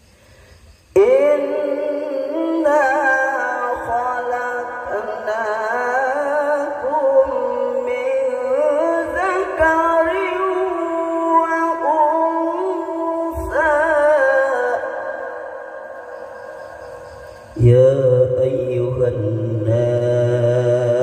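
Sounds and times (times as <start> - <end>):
man chanting recitation: 0.9 - 16.2, 17.6 - 21.0.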